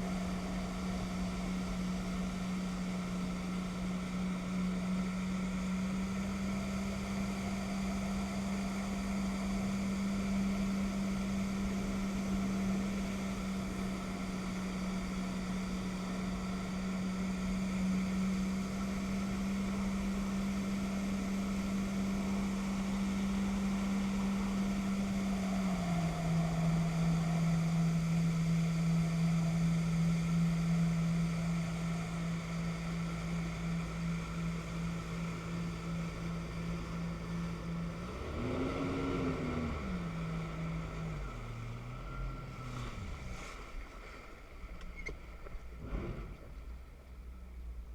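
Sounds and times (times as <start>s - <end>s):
jet ski engine droning: 0.0s - 47.9s
wind: 0.0s - 47.9s.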